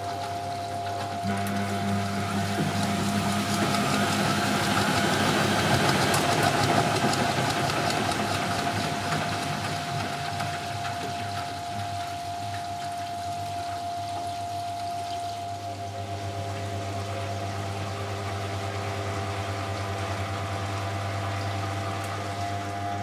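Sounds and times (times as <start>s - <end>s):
washing machine drum spinning: 0.0s - 23.0s.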